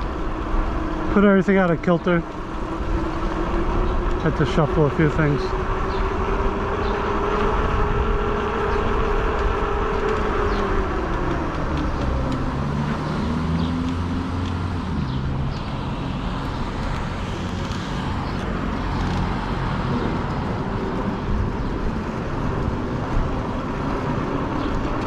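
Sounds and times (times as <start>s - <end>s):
bicycle tire hum on road: 0.0s - 25.0s
low motor hum: 0.0s - 25.0s
wind on microphone: 2.2s - 25.0s.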